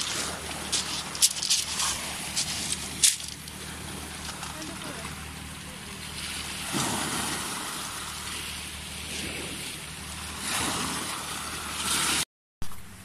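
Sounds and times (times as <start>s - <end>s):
sea waves washing over rocks: 0.0s - 12.2s.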